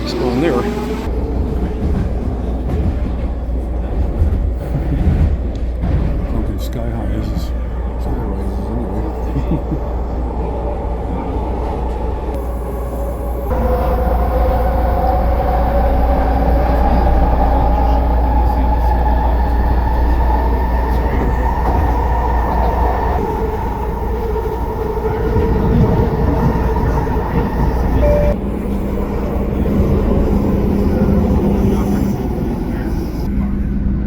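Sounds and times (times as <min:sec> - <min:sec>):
metro train rumble and whine: 0:00.0 - 0:34.0.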